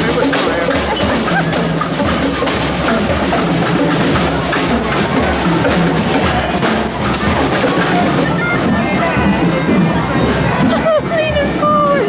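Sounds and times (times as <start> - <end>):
marching band playing: 0.0 - 11.6
drums beating: 0.0 - 12.0.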